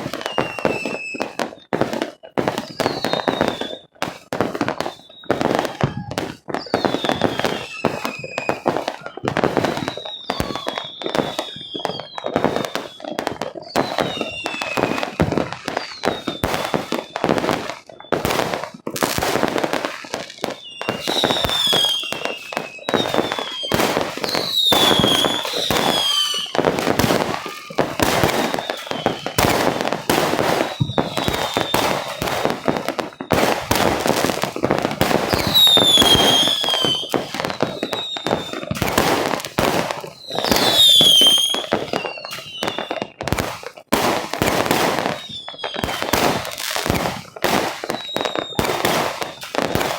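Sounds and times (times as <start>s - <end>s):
firework whistles falling in pitch: 0.0s - 43.5s, 44.2s - 49.9s
fireworks bangs and crackles: 0.0s - 49.9s.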